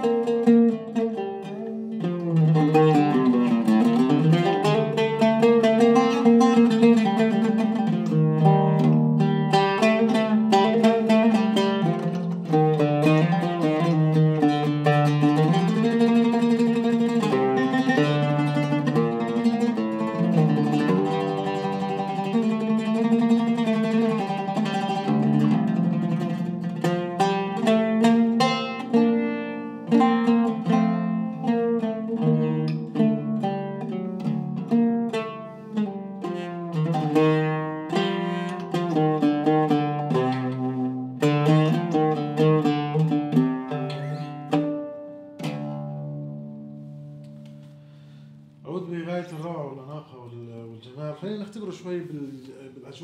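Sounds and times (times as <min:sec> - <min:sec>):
oud plucked with a plectrum: 0:00.0 - 0:53.0.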